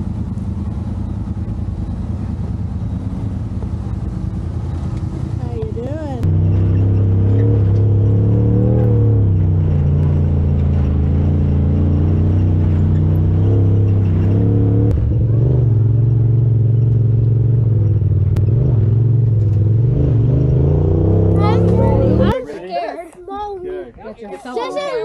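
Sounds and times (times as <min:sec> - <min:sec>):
utility vehicle engine running: 0:00.0 - 0:22.5.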